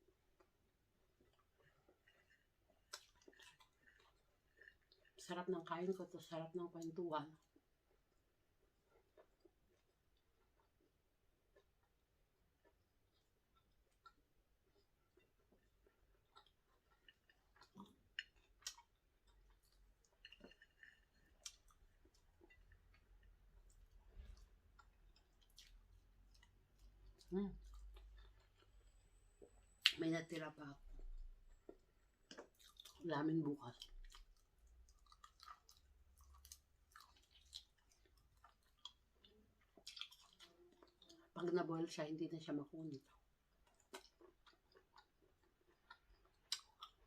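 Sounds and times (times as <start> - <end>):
person chewing: 0.1 - 5.2, 7.4 - 30.0, 31.0 - 33.0, 33.8 - 41.4, 43.1 - 47.0.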